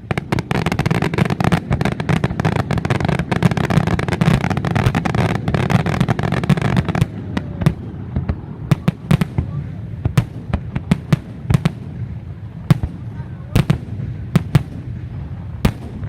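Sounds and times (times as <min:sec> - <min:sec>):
continuous low rumble: 0:00.0 - 0:16.0
fireworks bangs and crackles: 0:00.0 - 0:16.0.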